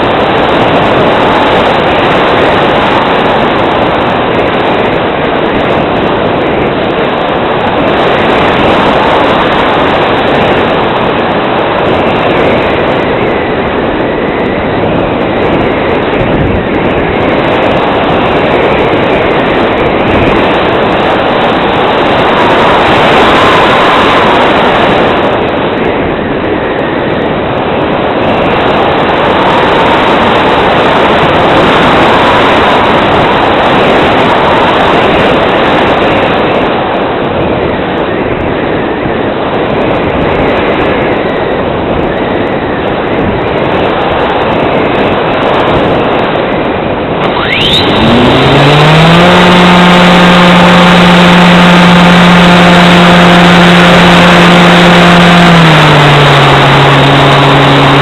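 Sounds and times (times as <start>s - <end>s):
airflow rushing over camera: 0.0s - 58.0s.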